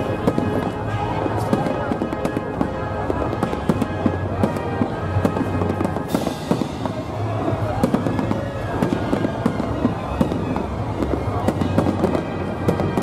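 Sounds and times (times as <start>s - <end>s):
crowd voices: 0.0s - 13.0s
fireworks bangs and crackles: 0.0s - 13.0s
music: 0.0s - 13.0s.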